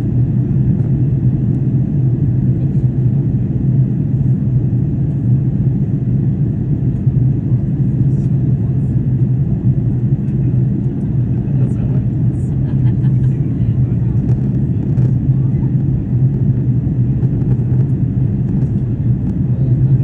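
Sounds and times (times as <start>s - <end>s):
aircraft drone in flight: 0.0s - 20.0s.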